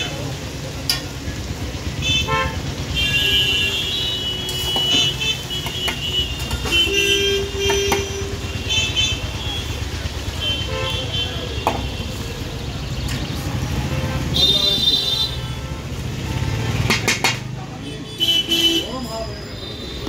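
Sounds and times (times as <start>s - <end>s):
engine rumble: 0.0s - 20.0s
vehicle horns honking: 2.0s - 13.1s, 13.8s - 16.9s, 17.8s - 20.0s.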